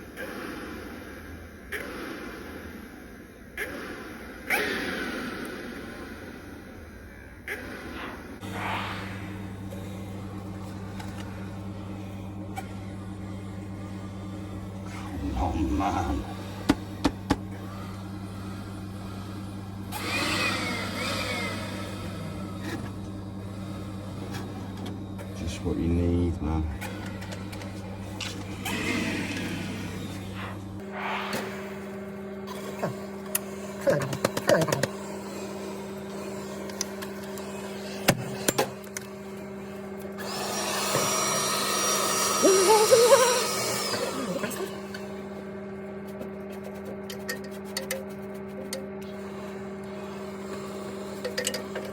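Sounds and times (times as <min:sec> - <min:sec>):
vacuum cleaner motor humming: 0:07.9 - 0:51.9.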